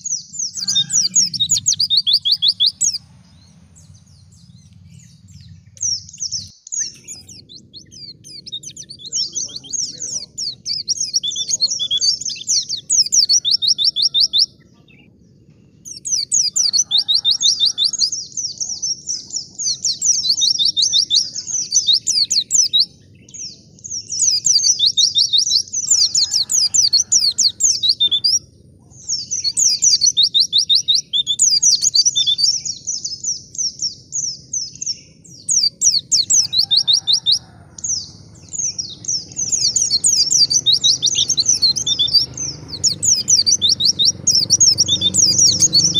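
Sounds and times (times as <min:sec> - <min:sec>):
bird twittering: 0:00.0 - 0:15.1, 0:15.7 - 0:45.9.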